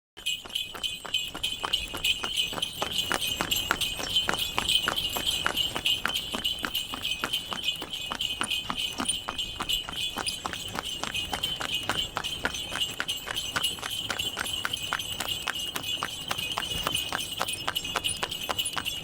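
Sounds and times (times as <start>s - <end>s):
harness bells jingling: 0.2s - 19.0s
hooves clip-clopping: 0.2s - 19.0s.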